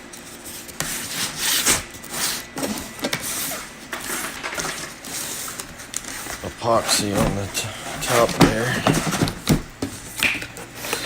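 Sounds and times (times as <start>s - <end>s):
box packaging scraping and rubbing: 0.0s - 11.0s.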